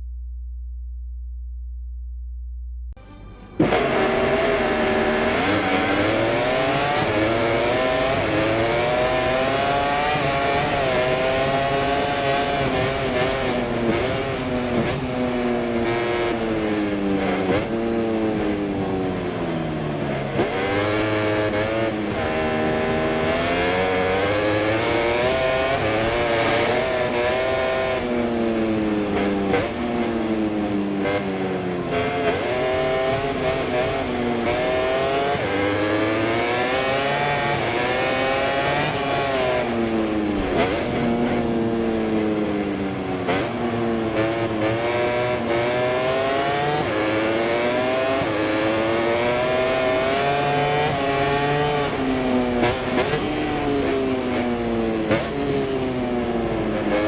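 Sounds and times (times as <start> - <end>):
racing motorcycle engine revving: 3.6 - 57.0.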